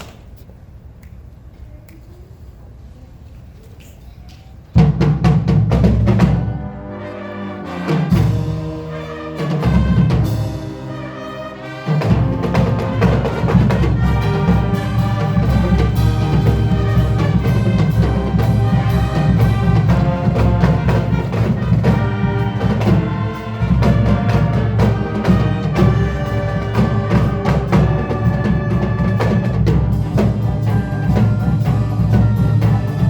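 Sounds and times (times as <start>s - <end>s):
timpani: 4.7s - 33.0s
marching band playing: 4.8s - 33.0s.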